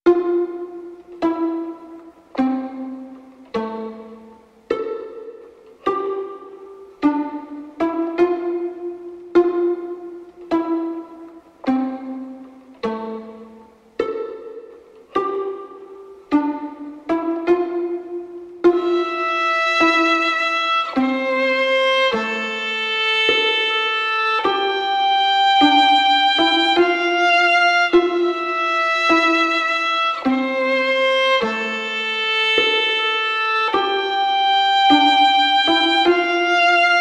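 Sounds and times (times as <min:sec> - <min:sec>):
string instrument slow melody: 0:00.1 - 0:37.0.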